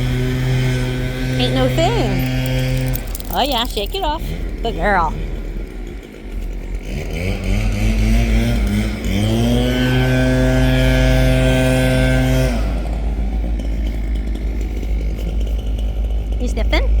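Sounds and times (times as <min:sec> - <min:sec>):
low traffic rumble: 0:00.0 - 0:17.0
vehicle engine accelerating: 0:00.0 - 0:17.0.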